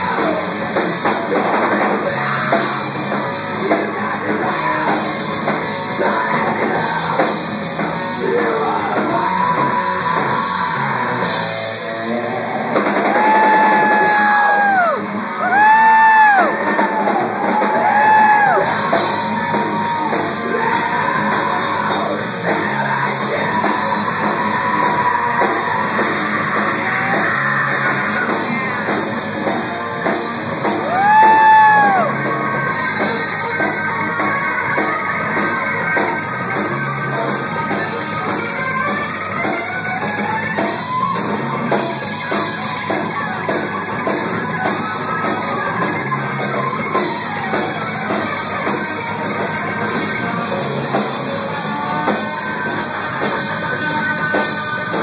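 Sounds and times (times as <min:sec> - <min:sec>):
distorted electric guitars: 0:00.0 - 0:55.0
drum kit: 0:00.0 - 0:55.0.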